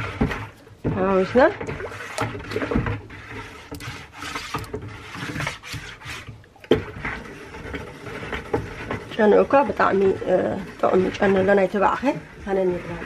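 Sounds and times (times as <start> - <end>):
batter stirred in plastic bucket: 0.0 - 13.0.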